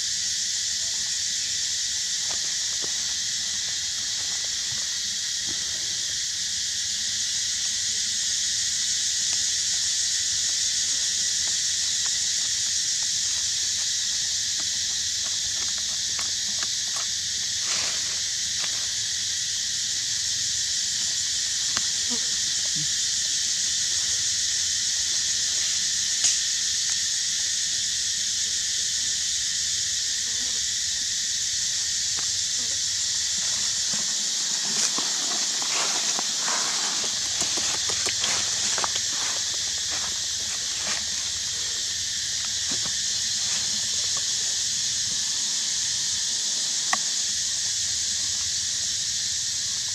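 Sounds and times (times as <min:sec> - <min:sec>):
high-pitched hiss: 0:00.0 - 0:49.9.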